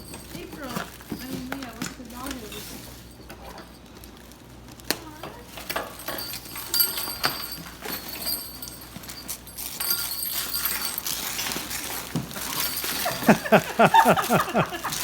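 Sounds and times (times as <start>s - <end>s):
gift packaging rustling: 0.0s - 15.0s.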